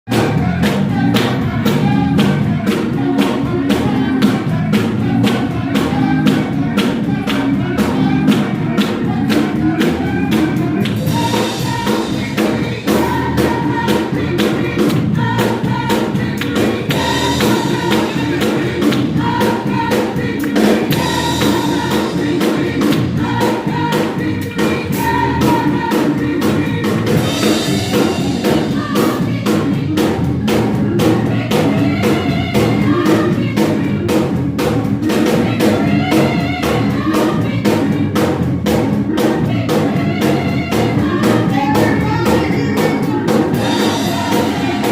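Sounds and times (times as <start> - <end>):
drum kit steady beat: 0.1 - 44.9
gospel choir singing: 0.1 - 44.9.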